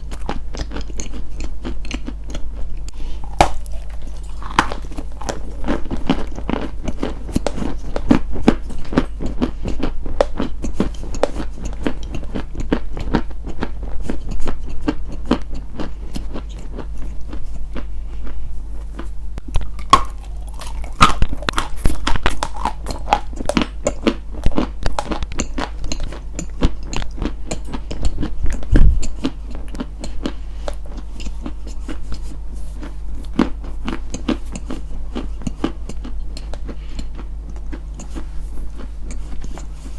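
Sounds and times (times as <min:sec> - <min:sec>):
crisp crunching and chewing: 0:00.0 - 0:39.9
steady low hum: 0:00.0 - 0:39.9.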